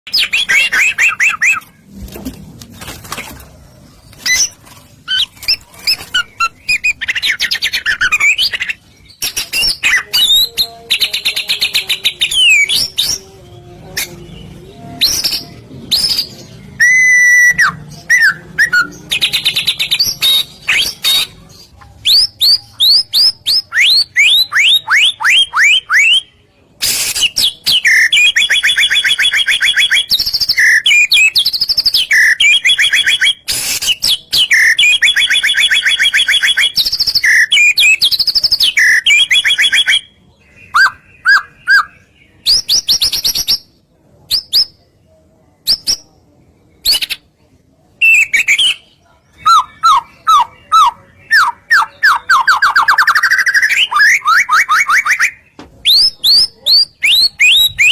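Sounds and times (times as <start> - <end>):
bird singing trills and whistles: 0.1 - 1.8, 4.2 - 13.3, 14.0 - 21.4, 22.0 - 43.7, 48.0 - 48.8, 49.4 - 57.9.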